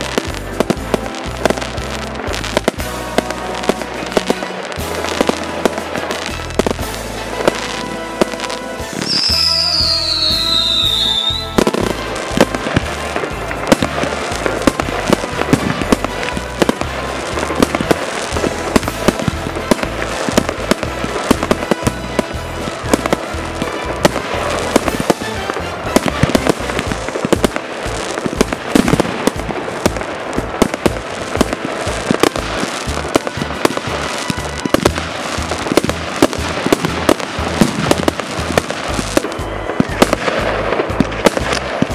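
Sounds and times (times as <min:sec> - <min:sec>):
fireworks bangs and crackling: 0:00.0 - 0:41.9
firework whistle falling in pitch: 0:04.1 - 0:41.9.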